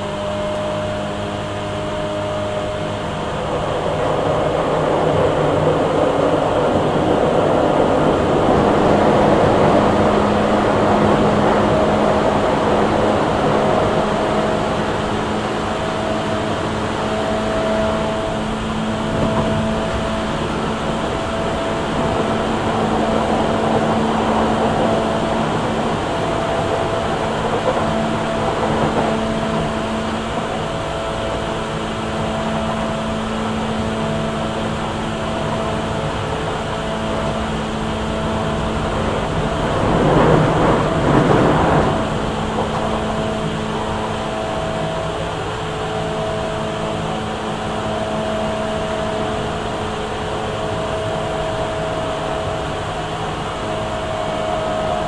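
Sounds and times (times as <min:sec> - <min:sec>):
higher motor tone: 0:00.0 - 0:55.0
low hum: 0:00.0 - 0:55.0
train running noise: 0:00.0 - 0:55.0.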